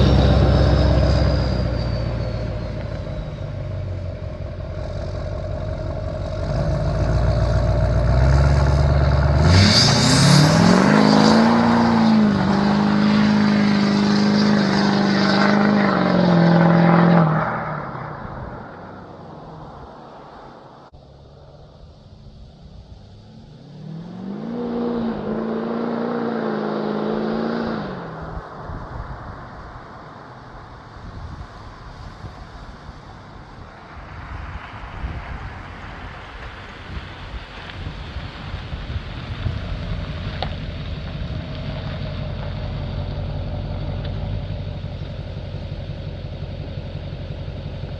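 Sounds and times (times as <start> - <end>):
diesel engine revving: 0.0 - 30.4, 38.2 - 47.9.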